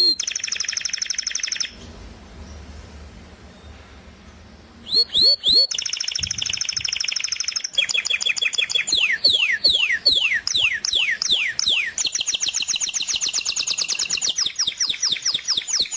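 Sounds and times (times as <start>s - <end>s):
small songbird singing: 0.0s - 1.8s, 4.8s - 15.9s.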